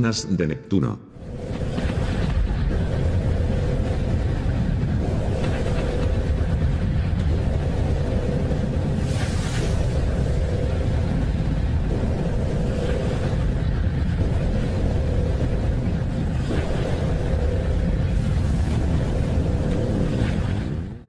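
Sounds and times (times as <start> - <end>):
low rumbling drone: 1.0 - 21.0
hissy swells: 1.2 - 20.9.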